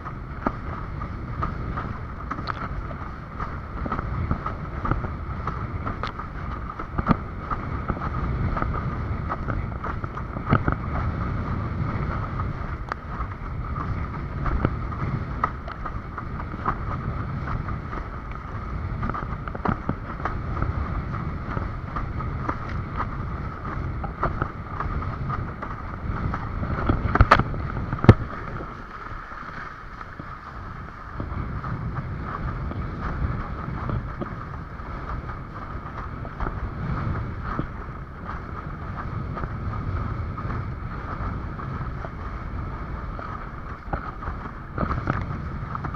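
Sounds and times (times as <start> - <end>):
water rushing against board: 0.0 - 45.9
wind buffeting microphone: 0.0 - 45.9.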